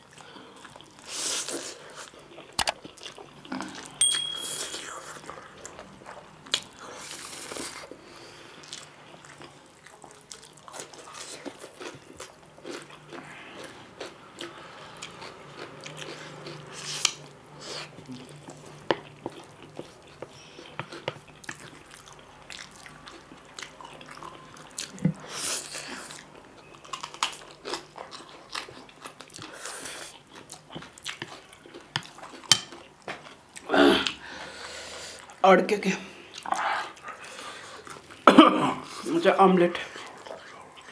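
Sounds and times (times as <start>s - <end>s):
wet chewing: 0.0s - 4.0s, 4.6s - 34.2s, 36.2s - 40.9s.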